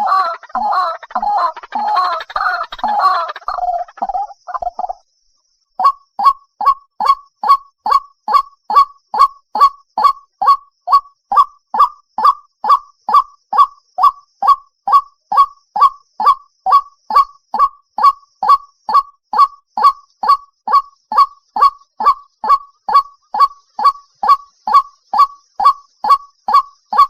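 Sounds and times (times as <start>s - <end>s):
waterhen call: 0.0s - 5.0s, 5.8s - 27.0s.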